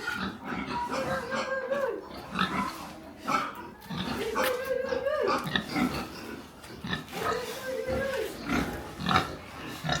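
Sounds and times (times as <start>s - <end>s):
farm animal calls: 0.0s - 10.0s.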